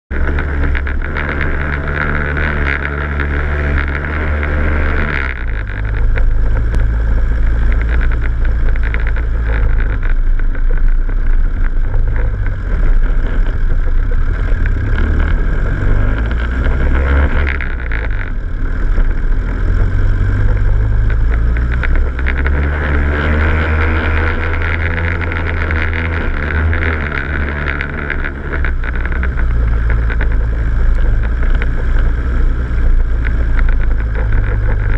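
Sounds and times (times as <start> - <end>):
off-road vehicle engine: 0.0 - 34.9
knocks and rattles over stones: 0.1 - 34.9.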